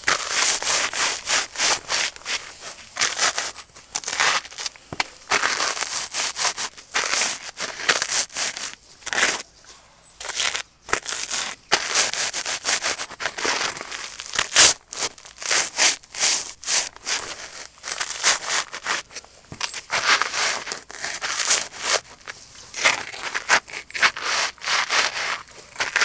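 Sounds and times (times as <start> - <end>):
pretzels crunching under boots: 0.0 - 9.6, 10.2 - 26.0.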